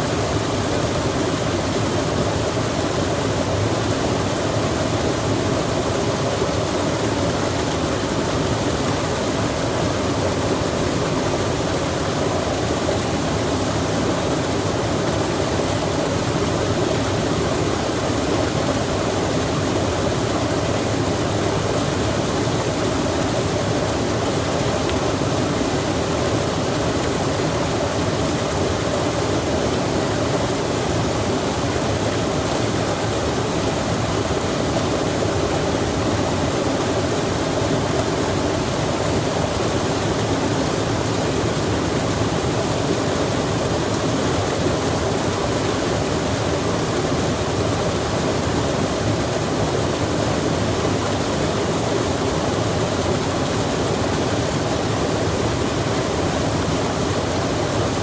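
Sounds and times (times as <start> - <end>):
rushing running water: 0.0 - 58.0.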